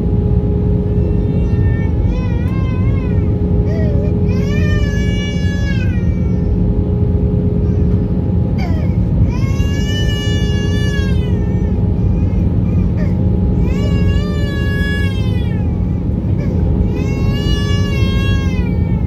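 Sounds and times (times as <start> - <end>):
airliner engines rumbling: 0.0 - 19.0.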